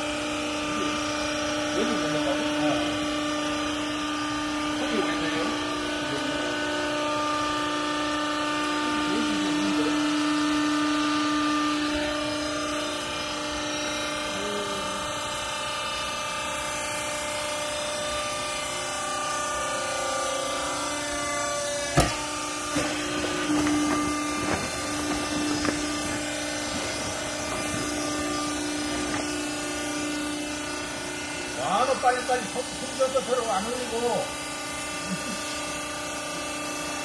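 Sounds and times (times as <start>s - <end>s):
hydraulic baler motor humming: 0.0s - 37.0s.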